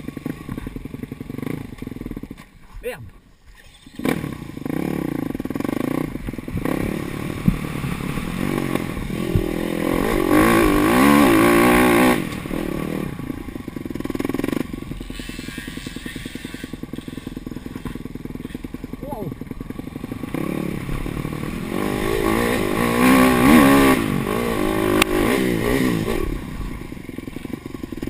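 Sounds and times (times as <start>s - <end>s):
motorcycle engine revving: 0.0s - 2.5s, 3.5s - 28.0s.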